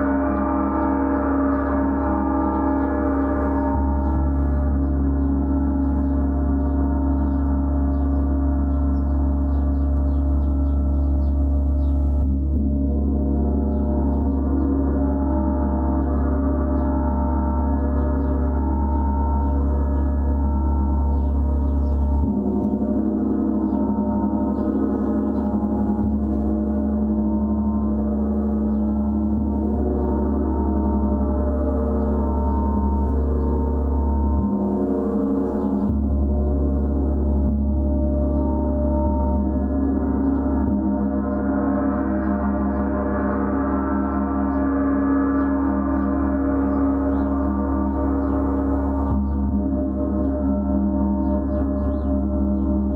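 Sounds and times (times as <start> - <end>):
deep hum: 0.0 - 52.9.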